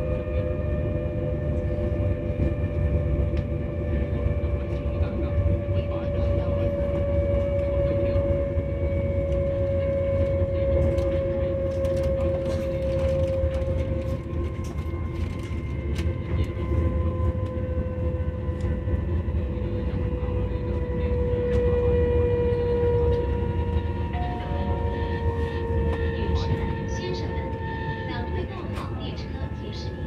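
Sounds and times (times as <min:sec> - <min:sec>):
electric train motor whine: 0:00.0 - 0:30.0
wheels rumbling on track: 0:00.0 - 0:30.0.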